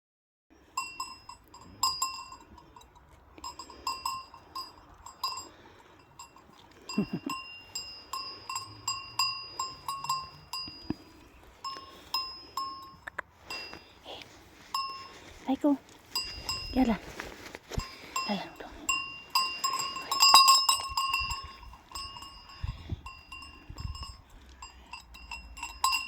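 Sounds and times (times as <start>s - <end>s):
sheep bells clanking: 0.6s - 26.0s.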